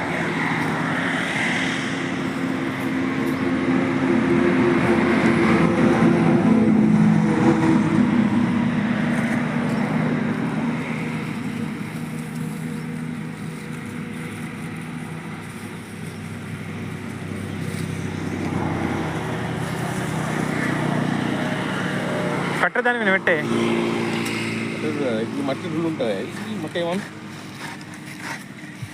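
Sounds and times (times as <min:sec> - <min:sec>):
engine running: 0:00.0 - 0:28.9.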